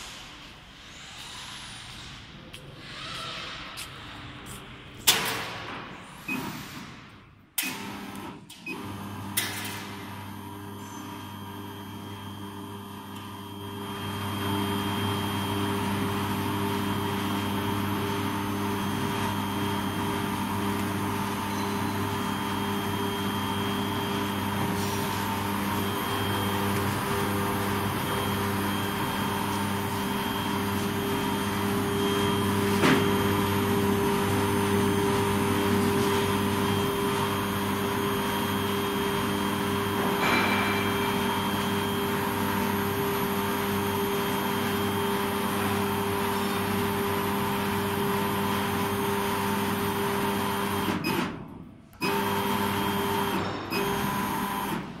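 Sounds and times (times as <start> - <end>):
laser engraver humming and whirring: 9.9 - 51.1, 52.0 - 54.8.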